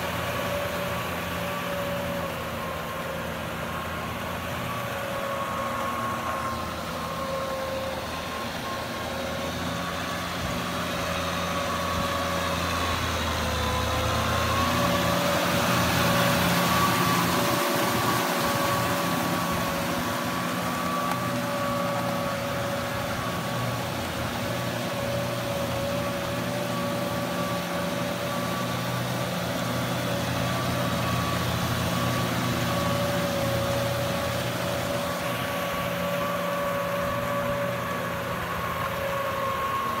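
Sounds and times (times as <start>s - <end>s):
high whine: 0.0s - 40.0s
tractor diesel engine under load: 0.0s - 40.0s.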